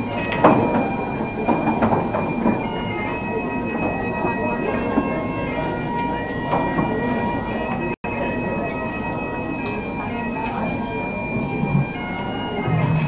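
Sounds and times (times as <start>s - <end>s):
droning background music: 0.0s - 13.0s.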